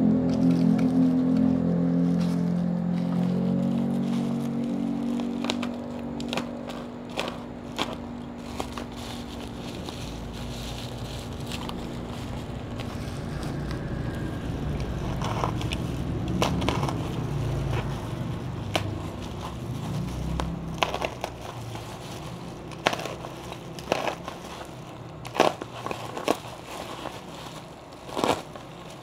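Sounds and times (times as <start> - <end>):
plastic packaging handling noise: 0.0 - 29.0
plastic crackling and snapping: 0.2 - 29.0.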